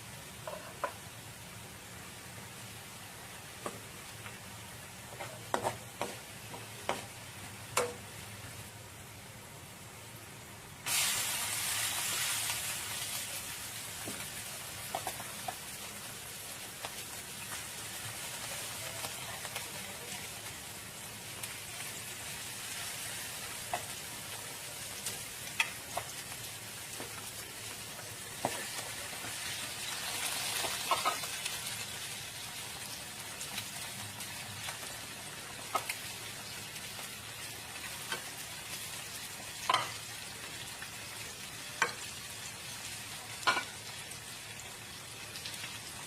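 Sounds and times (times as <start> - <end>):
food sizzling in hot oil: 0.0 - 46.0.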